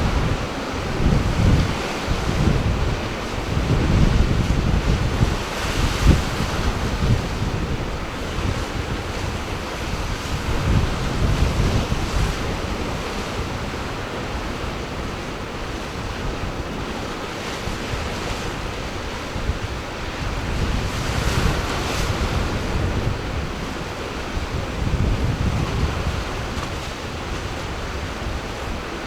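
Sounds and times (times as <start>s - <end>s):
ocean surf washing in: 0.0s - 29.0s
wind buffeting microphone: 0.0s - 29.0s.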